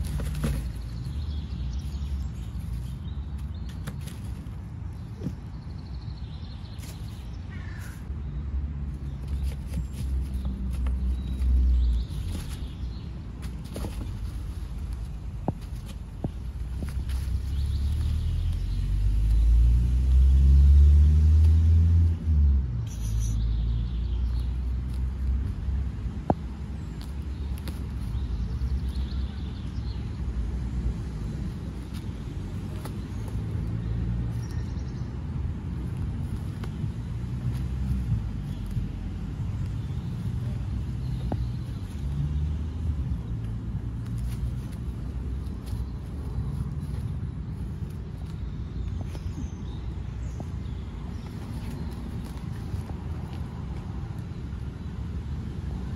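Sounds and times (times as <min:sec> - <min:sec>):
vehicle engine rumble: 0:00.0 - 0:55.9.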